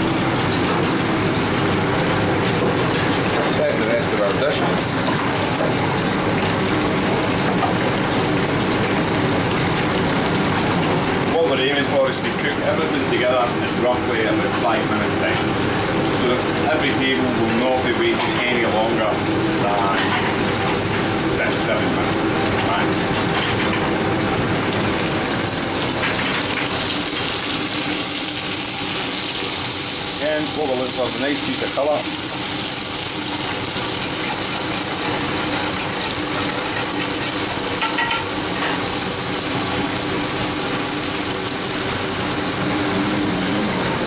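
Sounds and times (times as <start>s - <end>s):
chicken sizzling in deep fryer: 0.0s - 44.0s.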